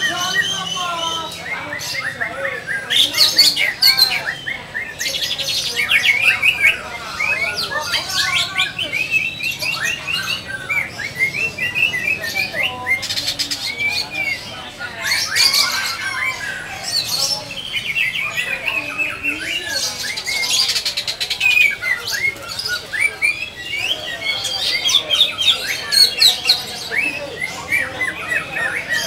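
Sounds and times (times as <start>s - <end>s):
caged songbirds chirping: 0.0s - 29.0s.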